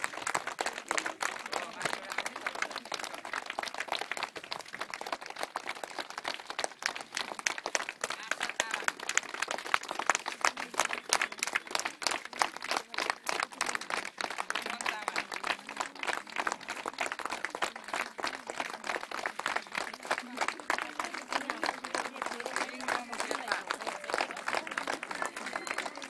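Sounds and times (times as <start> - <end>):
crowd of children clapping: 0.0 - 26.0.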